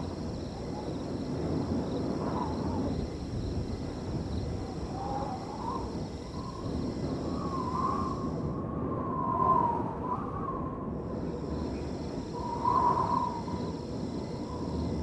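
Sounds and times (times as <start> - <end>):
crickets trilling: 0.0 - 15.0
wind blowing across a field: 0.0 - 15.0.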